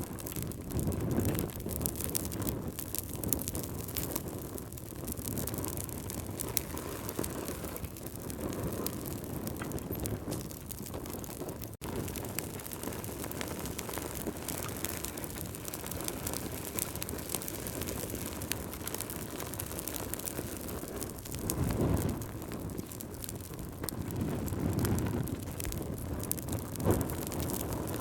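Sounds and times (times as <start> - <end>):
logs crackling and popping: 0.0 - 28.0
low rush of flame: 0.0 - 28.0.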